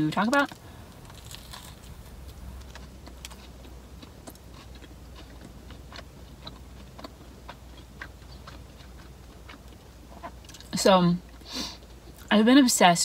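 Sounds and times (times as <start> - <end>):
faint low hum: 0.0 - 13.0
close chewing with wet mouth clicks: 0.3 - 12.3.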